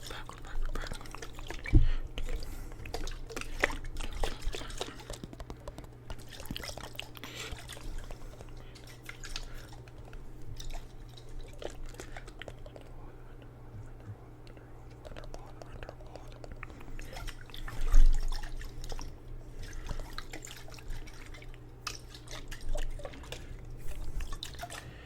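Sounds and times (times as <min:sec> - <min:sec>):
water sloshing in a jar: 0:00.0 - 0:12.9, 0:14.9 - 0:25.0.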